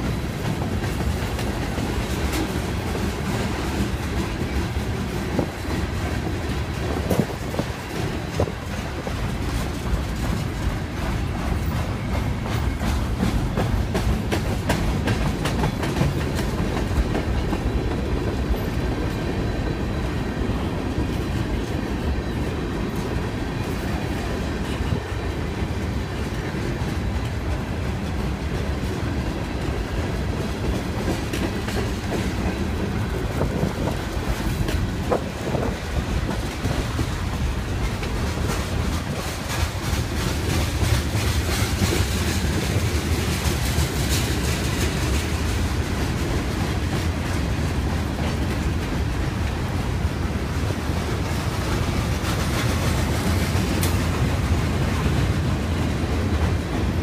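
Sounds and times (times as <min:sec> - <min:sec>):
train wheels rumbling: 0:00.0 - 0:57.0
wheels clicking on rails: 0:00.0 - 0:57.0.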